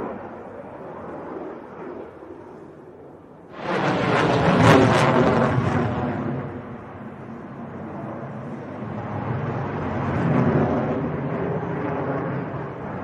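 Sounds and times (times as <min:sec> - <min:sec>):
fighter jet roar: 0:00.0 - 0:13.0.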